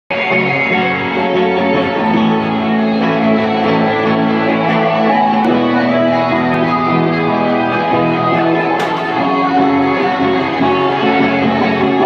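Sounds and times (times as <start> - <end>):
acoustic guitar chords: 0.1 - 12.0.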